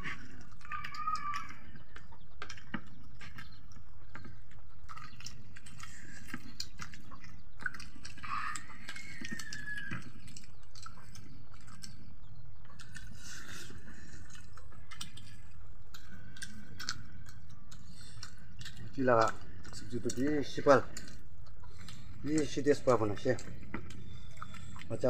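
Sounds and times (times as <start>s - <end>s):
fingers mixing rice on plates: 0.0s - 25.0s
wet smacking and chewing: 0.0s - 25.0s.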